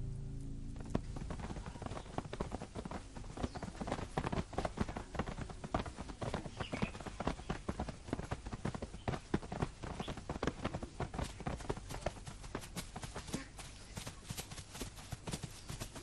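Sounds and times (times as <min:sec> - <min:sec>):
horses' hoofbeats: 0:00.7 - 0:16.0.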